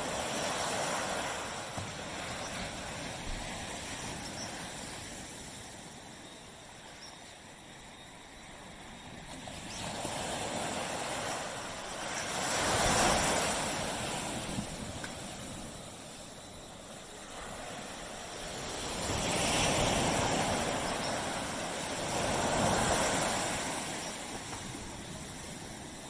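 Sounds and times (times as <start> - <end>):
waves breaking on a beach: 0.0 - 26.0.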